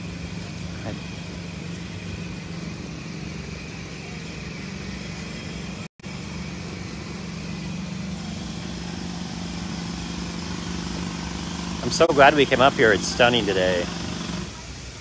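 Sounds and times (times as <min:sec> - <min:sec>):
city traffic rumble: 0:00.0 - 0:15.0
constant low hum: 0:00.0 - 0:15.0.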